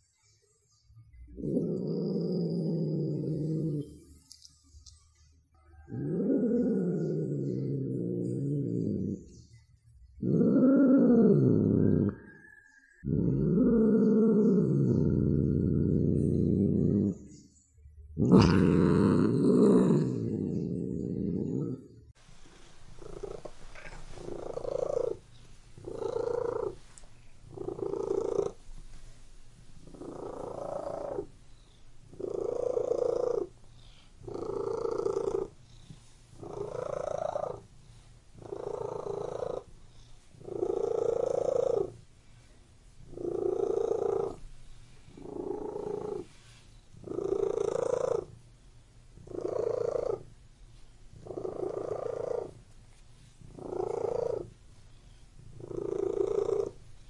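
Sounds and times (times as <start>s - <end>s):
cat purring: 1.1s - 4.9s, 5.6s - 17.4s, 18.1s - 48.4s, 49.1s - 50.4s, 51.1s - 57.0s.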